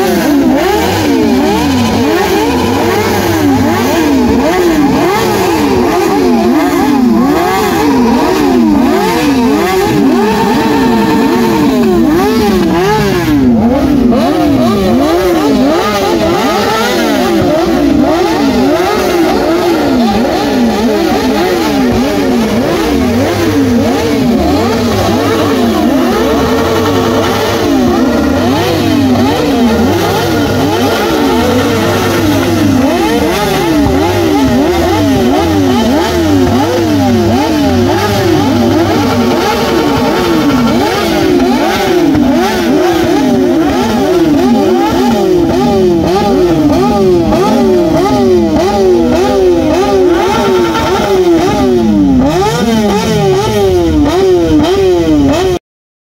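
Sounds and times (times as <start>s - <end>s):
low engine drone: 0.0s - 52.4s
motorcycle engines revving: 0.0s - 55.6s.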